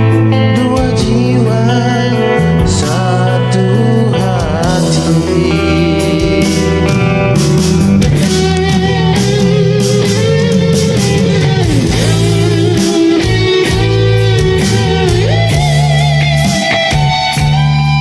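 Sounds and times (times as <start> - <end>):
bass: 0.0 - 18.0
drum kit: 0.0 - 18.0
lead guitar melody: 0.0 - 18.0.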